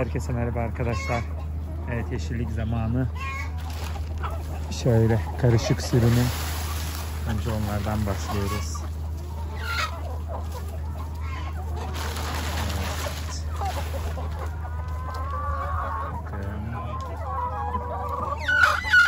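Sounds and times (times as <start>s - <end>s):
hens and roosters clucking: 0.0s - 19.0s.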